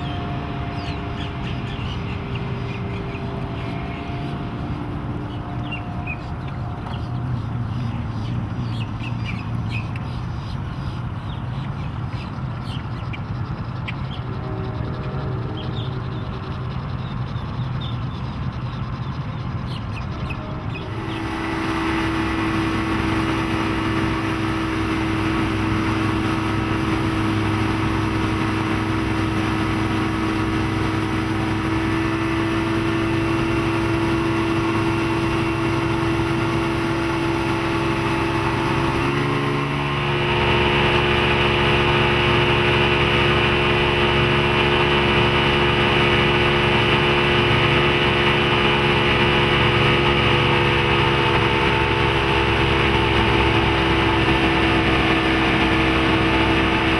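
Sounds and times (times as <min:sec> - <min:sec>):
outboard motor running: 0:00.0 - 0:56.9.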